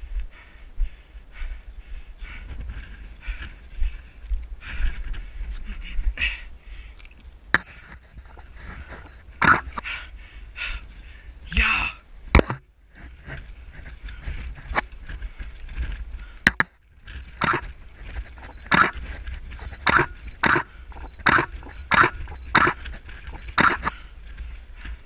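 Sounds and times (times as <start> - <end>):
person breathing hard: 0.0 - 12.0, 13.0 - 25.0
wind rumble on microphone: 0.0 - 25.0.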